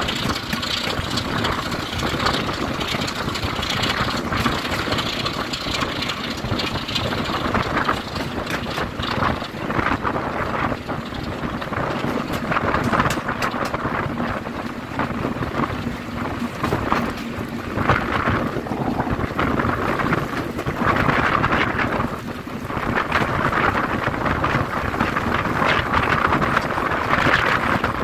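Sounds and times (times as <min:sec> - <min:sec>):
diesel locomotive engine running: 0:00.0 - 0:28.0
wind gusting over microphone: 0:00.0 - 0:28.0.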